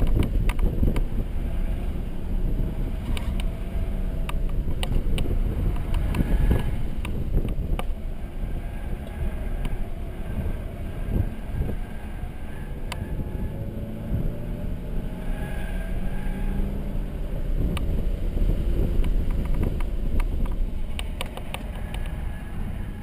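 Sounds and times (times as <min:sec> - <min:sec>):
car cabin rumble: 0:00.0 - 0:23.0.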